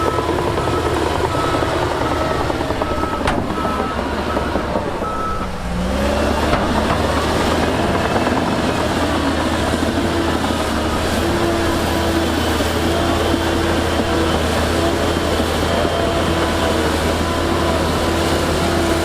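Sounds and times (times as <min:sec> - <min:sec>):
diesel engine of heavy machinery: 0:00.0 - 0:19.0
reversing alarm beeping: 0:00.0 - 0:19.0.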